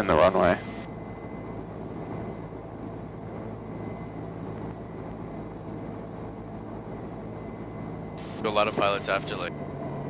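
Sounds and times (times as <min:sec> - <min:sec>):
aircraft engine drone: 0:00.0 - 0:10.0
faint high whine: 0:00.0 - 0:10.0.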